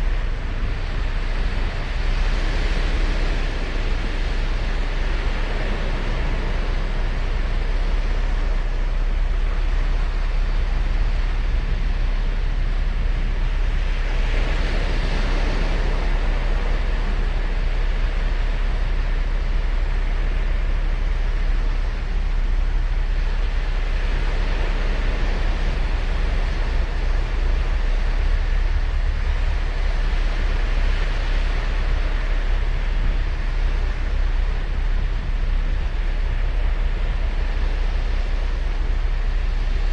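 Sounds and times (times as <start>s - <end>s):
low rumble: 0.0s - 39.9s
waves breaking and washing in: 0.0s - 39.9s.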